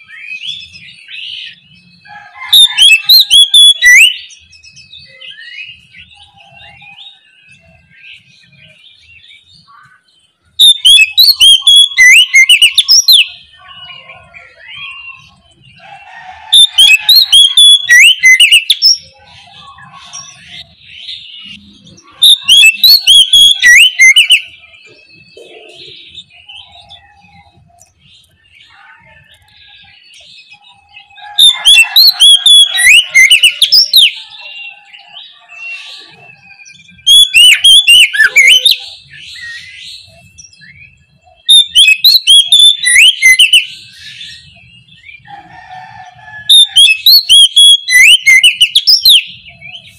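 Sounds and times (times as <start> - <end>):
bird whistling song: 0.0 - 49.9
faint bird chirping: 3.3 - 49.9.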